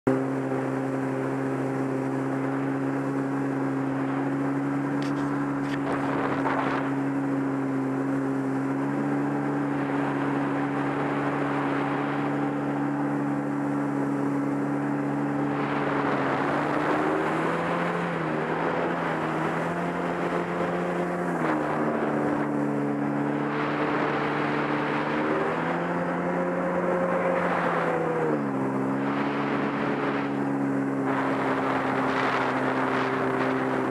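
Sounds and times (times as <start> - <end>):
watercraft engine running: 0.0 - 33.9
wind: 0.0 - 33.9.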